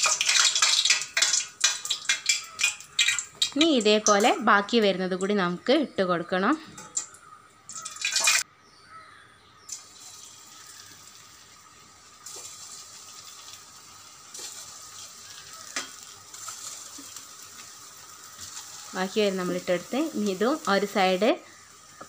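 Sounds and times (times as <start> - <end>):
oil sizzling: 0.0 - 5.3, 6.8 - 8.5, 9.7 - 22.0.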